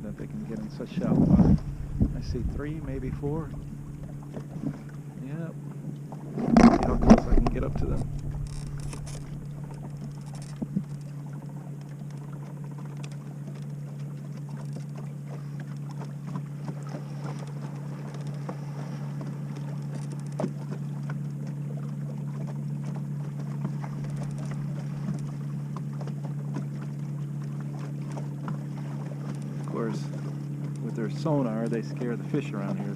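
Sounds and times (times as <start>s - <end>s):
boat motor humming: 0.0s - 32.9s.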